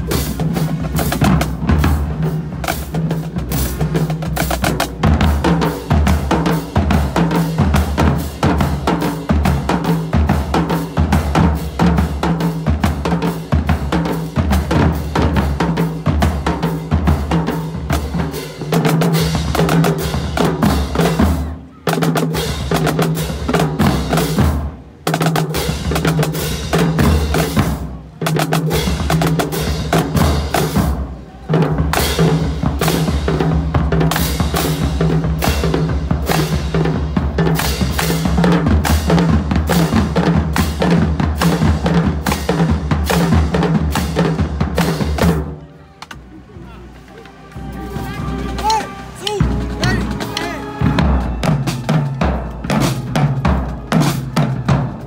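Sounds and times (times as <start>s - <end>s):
marching drumline playing: 0.0s - 45.6s, 47.4s - 55.0s.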